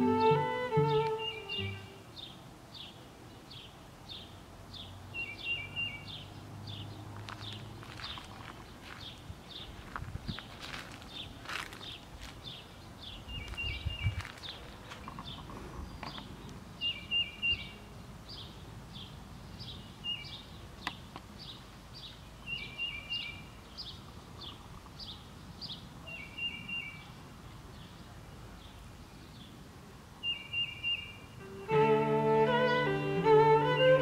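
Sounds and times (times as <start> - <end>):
songbirds singing: 0.0 - 33.4
soft outdoor background: 0.0 - 34.0.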